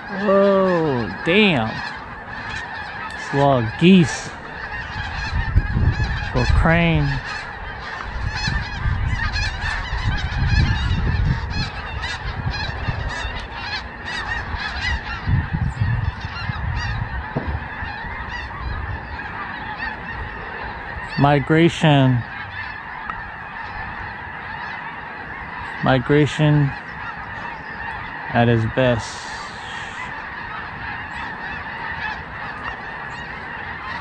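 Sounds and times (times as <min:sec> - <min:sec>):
flock of geese honking: 0:00.0 - 0:34.0.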